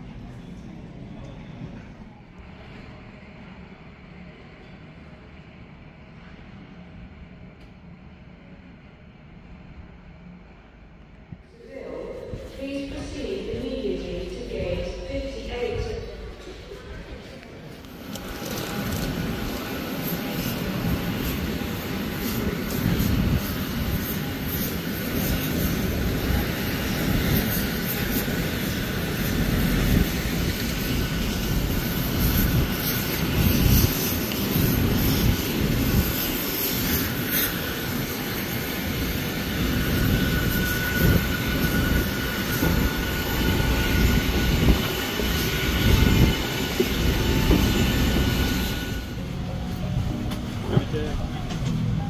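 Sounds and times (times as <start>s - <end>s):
airport machinery whine and hum: 0.0s - 52.0s.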